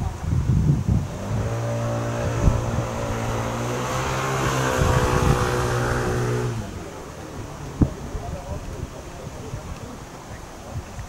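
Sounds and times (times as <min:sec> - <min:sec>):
engine drone: 0:00.8 - 0:10.3.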